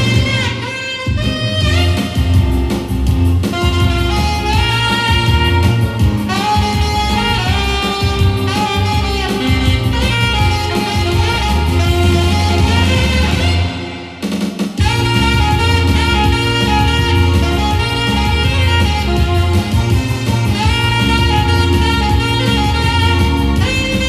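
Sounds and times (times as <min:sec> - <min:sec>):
backing track with bass and drums: 0:00.0 - 0:24.0
saxophone playing a melody: 0:00.0 - 0:24.0.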